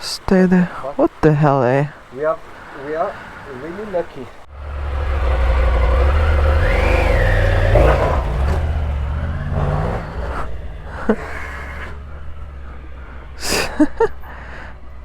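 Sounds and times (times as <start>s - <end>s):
vehicle engine humming: 1.1s - 15.0s.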